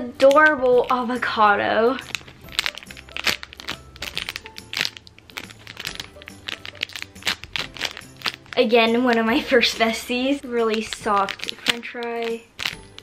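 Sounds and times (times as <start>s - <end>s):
soft background music: 0.0s - 13.0s
plastic bag crinkling: 0.2s - 13.0s.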